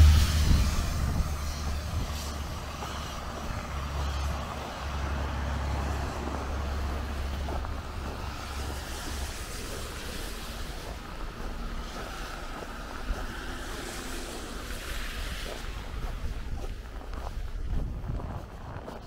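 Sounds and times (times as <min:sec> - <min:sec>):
car passing: 0:00.0 - 0:18.6
low rumble of traffic: 0:00.0 - 0:19.0.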